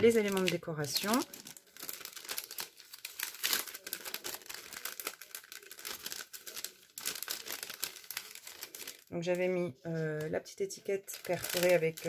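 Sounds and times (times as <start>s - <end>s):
craft materials crinkling: 0.0s - 9.1s, 11.0s - 12.0s.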